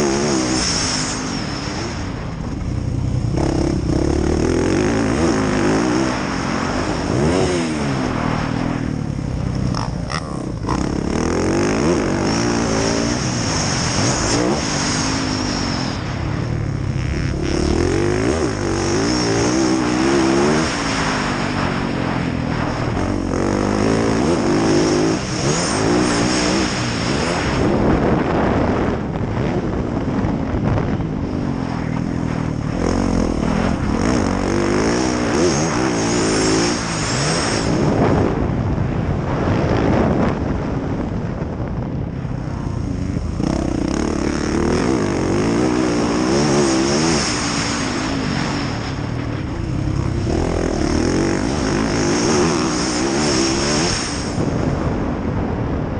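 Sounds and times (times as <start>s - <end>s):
dirt bike engine revving: 0.0s - 38.5s, 42.5s - 55.2s.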